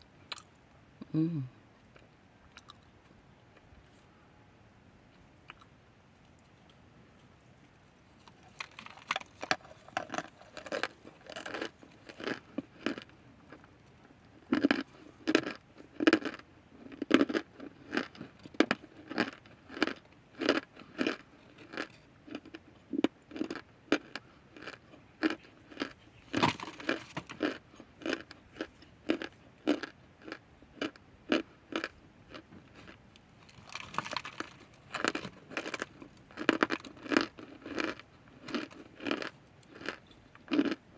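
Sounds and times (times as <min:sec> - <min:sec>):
crunchy chewing: 0:05.1 - 0:40.9.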